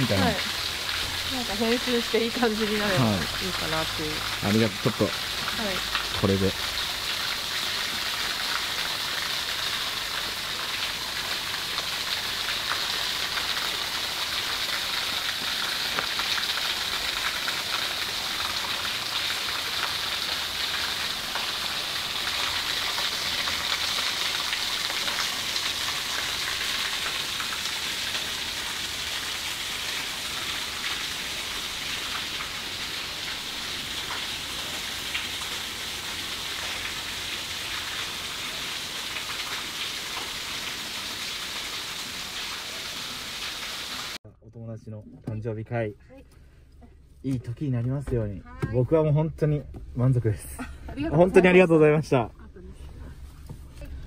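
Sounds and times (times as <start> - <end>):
running water splashing: 0.0 - 44.2.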